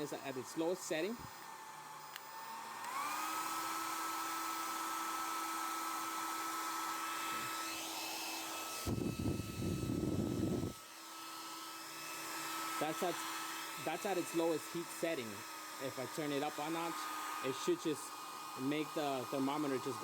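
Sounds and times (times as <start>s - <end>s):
hair dryer motor whine: 0.0s - 20.0s.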